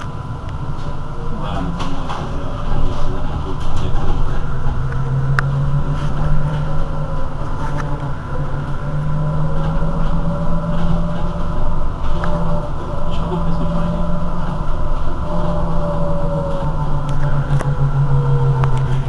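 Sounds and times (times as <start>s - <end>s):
electric bus humming: 0.0s - 19.0s.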